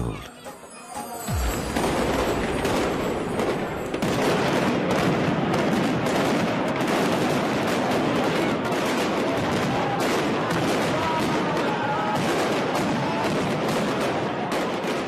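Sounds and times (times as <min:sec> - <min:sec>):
fireworks crackling bangs: 0:01.3 - 0:15.0.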